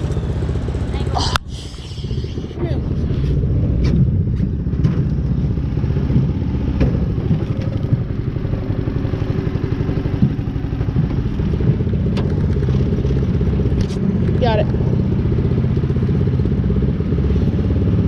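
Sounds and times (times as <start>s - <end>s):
boat motor running: 0.0s - 18.0s.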